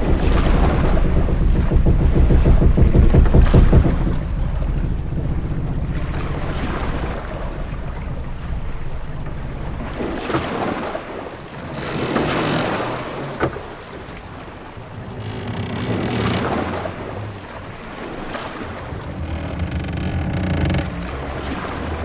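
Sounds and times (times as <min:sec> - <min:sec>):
low wind rumble: 0:00.0 - 0:22.0
ship timbers knocking: 0:00.0 - 0:22.0
waves washing against hull: 0:00.0 - 0:22.0.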